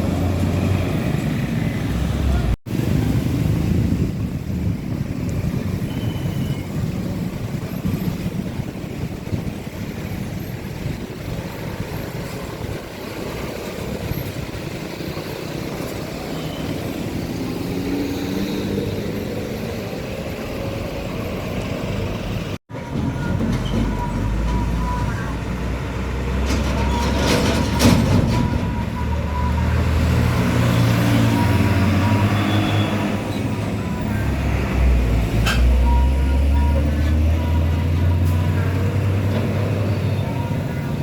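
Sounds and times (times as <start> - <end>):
diesel engine rumble: 0.0 - 41.0
heavy trucks passing: 0.0 - 41.0.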